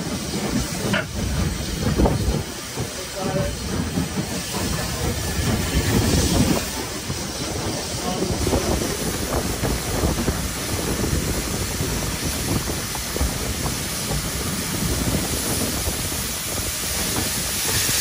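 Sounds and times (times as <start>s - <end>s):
rumble of wheels on track: 0.0s - 18.0s
steam hiss and exhaust: 0.0s - 18.0s.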